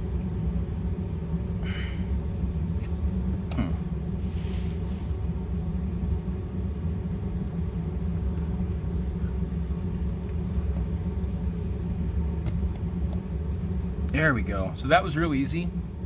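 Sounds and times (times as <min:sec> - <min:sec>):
machinery rumble: 0:00.0 - 0:16.0.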